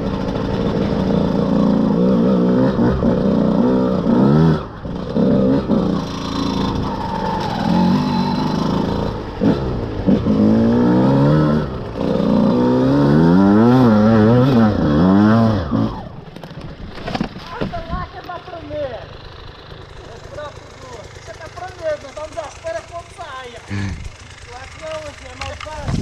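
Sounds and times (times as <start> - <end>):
dirt bike engine revving: 0.0 - 16.2, 18.2 - 26.0.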